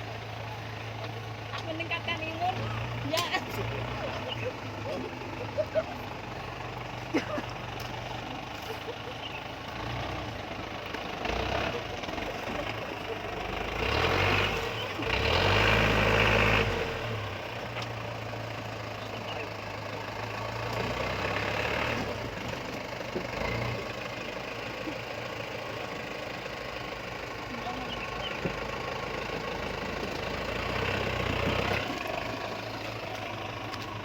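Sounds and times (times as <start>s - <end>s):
diesel engine knocking under load: 0.0s - 34.0s.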